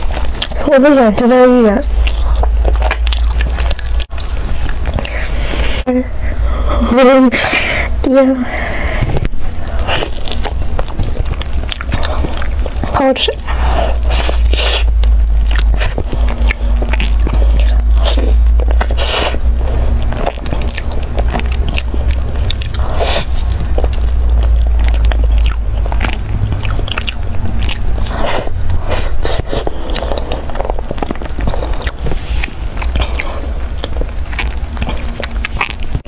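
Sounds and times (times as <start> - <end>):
biting and chewing pastry: 0.0 - 6.4, 8.6 - 36.0
steady low hum: 0.0 - 36.0.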